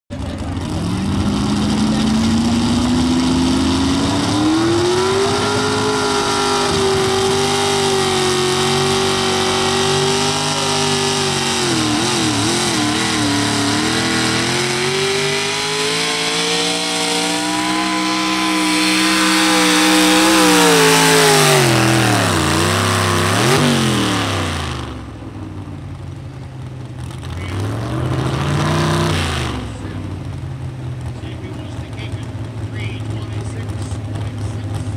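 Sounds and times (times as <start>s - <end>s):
truck engine at full throttle: 0.1s - 34.9s.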